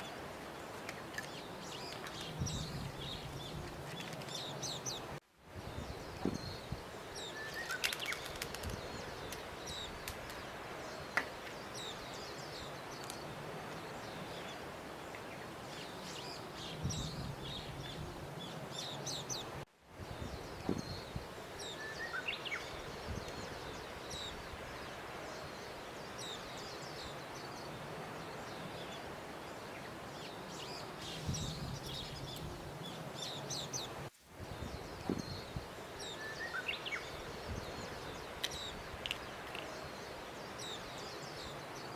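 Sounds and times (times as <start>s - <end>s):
small birds chirping: 0.0s - 41.9s
steady outdoor hiss: 0.0s - 41.9s.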